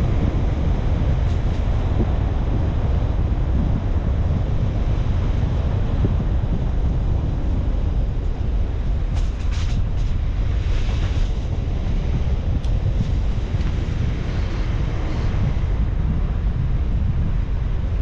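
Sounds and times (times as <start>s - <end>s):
tyre and wind noise: 0.0s - 18.0s.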